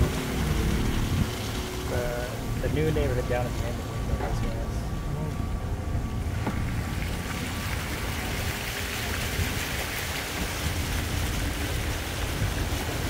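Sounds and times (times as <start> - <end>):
low rumble: 0.0 - 13.0
rushing water: 0.0 - 13.0.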